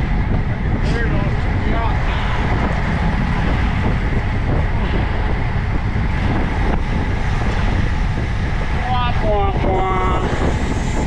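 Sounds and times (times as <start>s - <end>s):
road noise rumble: 0.0s - 11.0s
wind on microphone: 0.0s - 11.0s.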